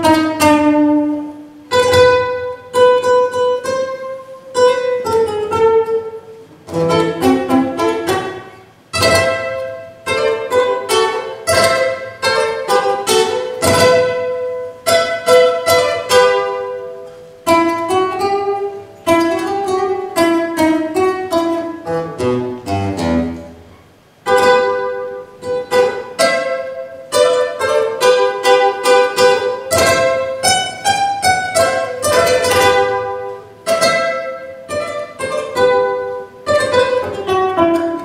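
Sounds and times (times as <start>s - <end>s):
classical guitar playing: 0.0s - 38.0s.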